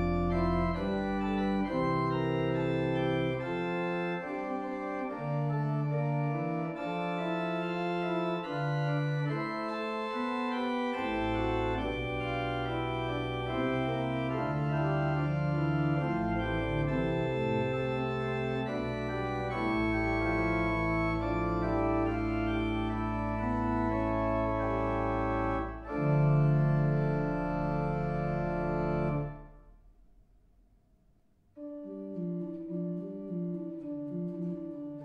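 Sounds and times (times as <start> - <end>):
pipe organ chords: 0.0 - 29.8, 31.6 - 35.0.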